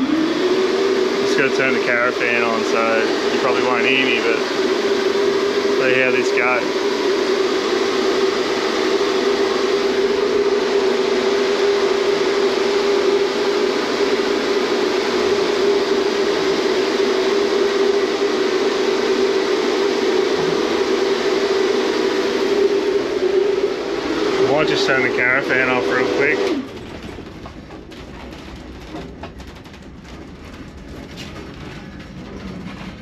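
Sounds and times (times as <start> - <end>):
air conditioning unit humming: 0.0 - 33.0.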